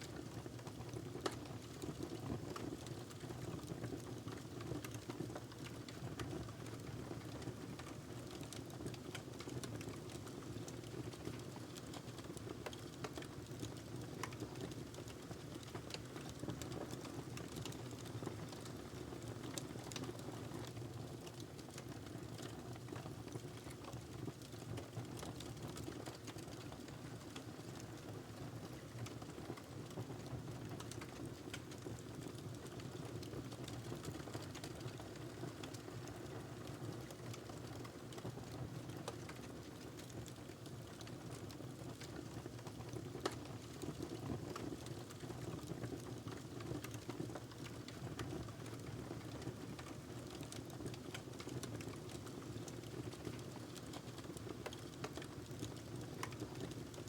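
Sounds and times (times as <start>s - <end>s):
wood crackling and popping: 0.6s - 1.4s, 10.8s - 30.0s, 30.6s - 57.0s.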